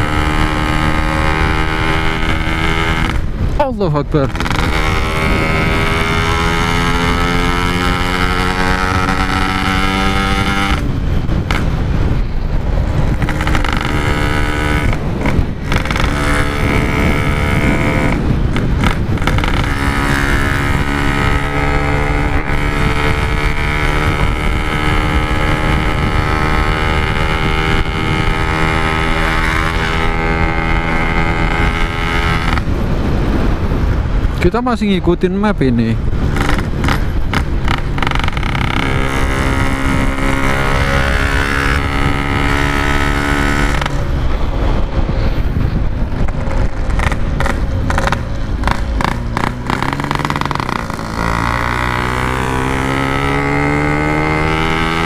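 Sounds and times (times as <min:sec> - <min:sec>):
two-stroke motorcycle engine: 0:00.0 - 0:33.1, 0:36.2 - 0:44.8, 0:45.8 - 0:55.0
wind rush: 0:00.0 - 0:55.0.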